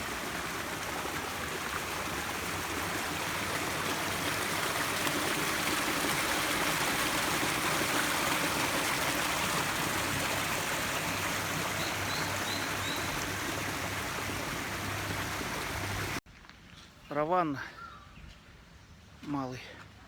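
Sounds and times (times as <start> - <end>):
rushing water: 0.0 - 16.2.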